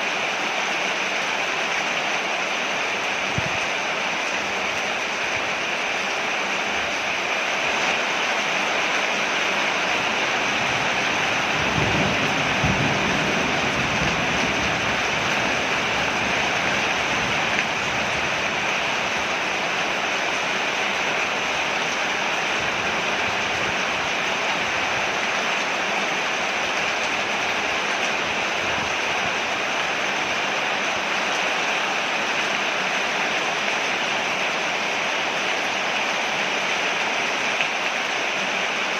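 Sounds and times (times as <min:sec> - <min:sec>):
rain falling on a porch: 0:00.0 - 0:38.9.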